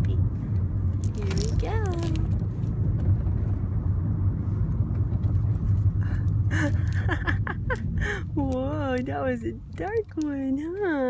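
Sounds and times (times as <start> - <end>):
road rumble inside car: 0.0 - 11.0.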